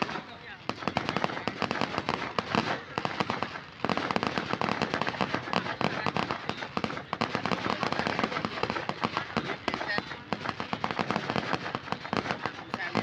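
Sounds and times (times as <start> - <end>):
fireworks crackling pops: 0.0 - 13.0.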